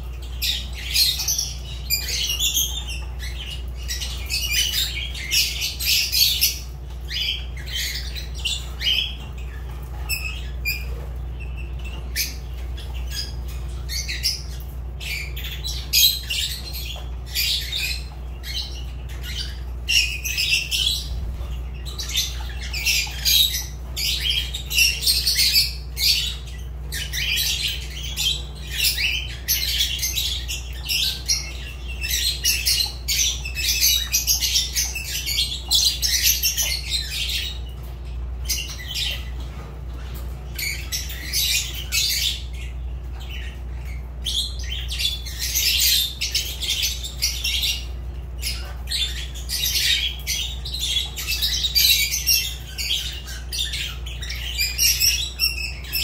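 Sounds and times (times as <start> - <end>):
lovebirds chirping and squawking: 0.0 - 56.0
steady low hum: 0.0 - 56.0.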